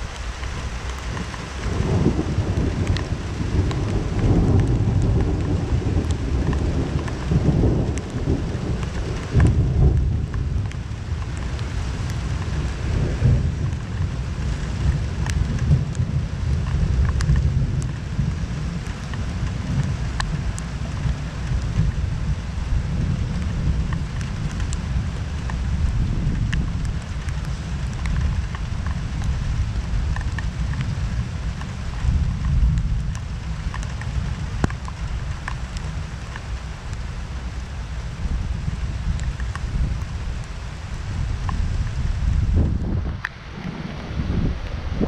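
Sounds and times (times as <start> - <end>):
raindrops tapping: 0.0 - 45.0
steady rain: 0.0 - 45.0
thunder rumbling: 0.0 - 45.0.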